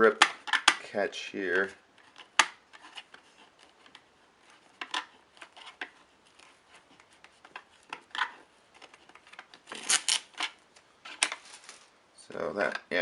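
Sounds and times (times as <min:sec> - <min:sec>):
plastic parts clicking and scraping: 0:00.0 - 0:13.0.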